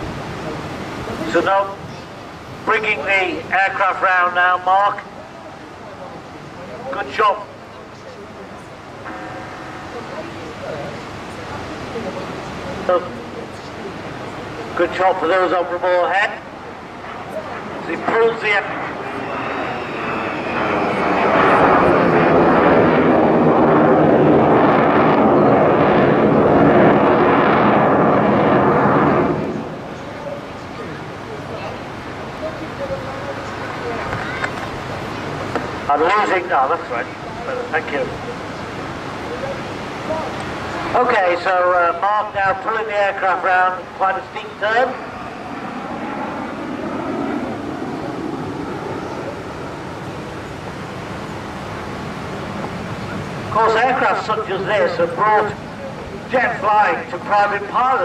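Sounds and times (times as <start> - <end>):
jet flying overhead: 0.0 - 58.0.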